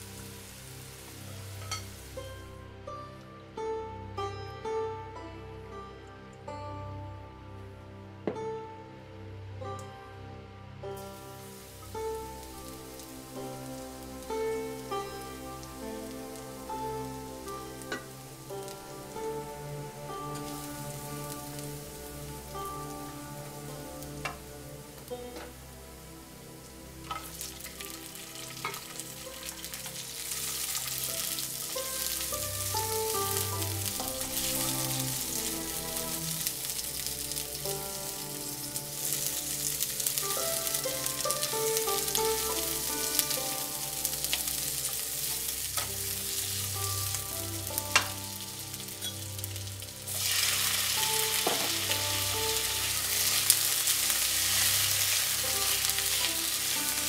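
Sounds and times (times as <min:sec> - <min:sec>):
vegetables sizzling in hot oil: 0:00.0 - 0:02.5, 0:11.0 - 0:57.0.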